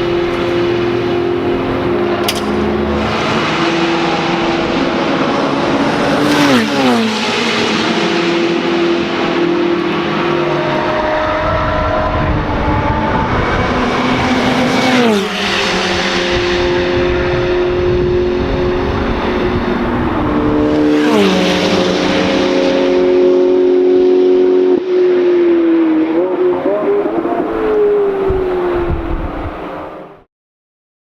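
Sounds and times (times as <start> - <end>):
racing cars passing by: 0.0 - 30.3.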